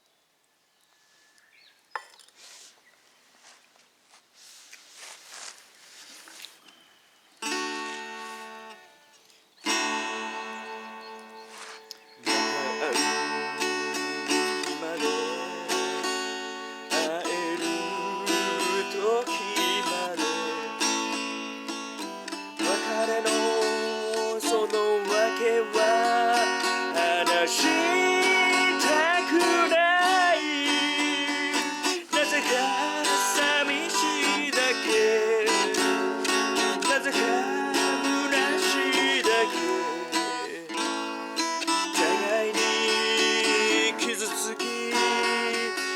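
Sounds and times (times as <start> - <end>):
acoustic guitar strummed and picked: 7.4 - 45.9.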